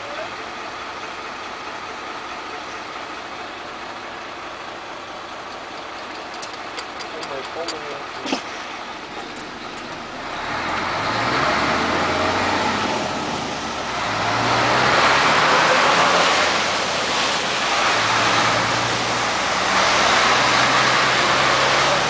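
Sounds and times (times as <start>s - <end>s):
road noise: 0.0s - 22.0s
truck diesel engine accelerating: 0.0s - 22.0s.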